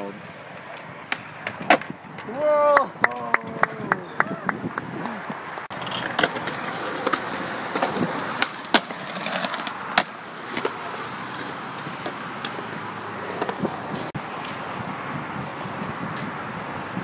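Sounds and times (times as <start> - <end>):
skateboard clacking: 0.0 - 14.6
skateboard wheels rolling on concrete: 0.0 - 17.0.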